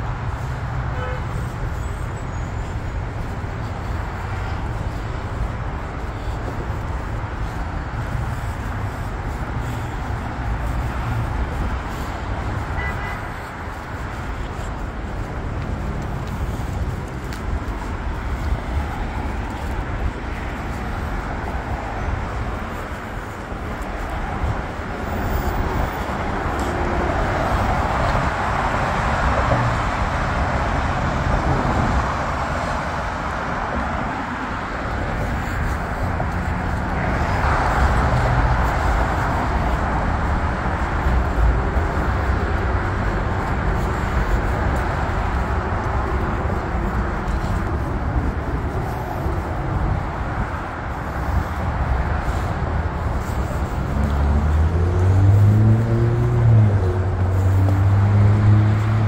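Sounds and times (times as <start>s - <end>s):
highway traffic hiss and rumble: 0.0s - 59.0s.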